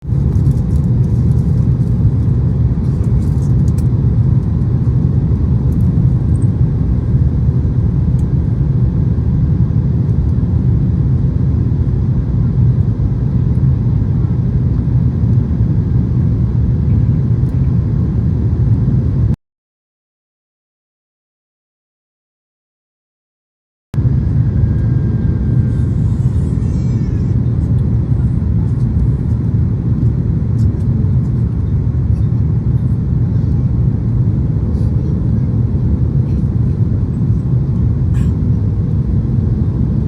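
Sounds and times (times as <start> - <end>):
airplane landing rumble: 0.0 - 19.4, 24.0 - 40.0.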